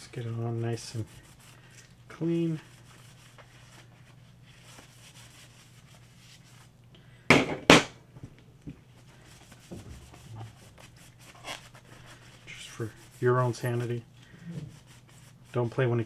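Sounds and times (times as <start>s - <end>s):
faint rubbing and handling: 0.0s - 6.8s, 8.8s - 16.0s.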